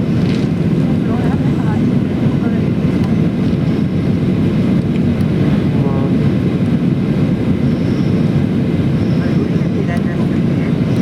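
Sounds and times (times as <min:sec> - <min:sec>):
airplane cabin engine hum: 0:00.0 - 0:11.0.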